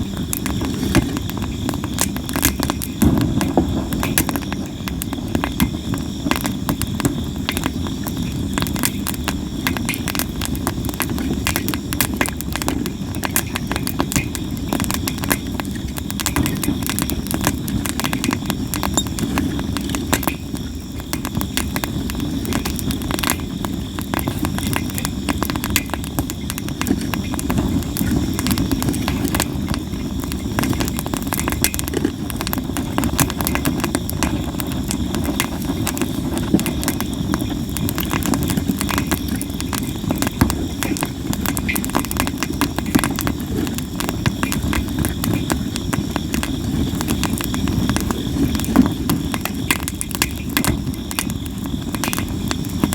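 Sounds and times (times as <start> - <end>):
campfire flames rushing: 0.0 - 52.9
wood crackling and popping: 0.0 - 52.9.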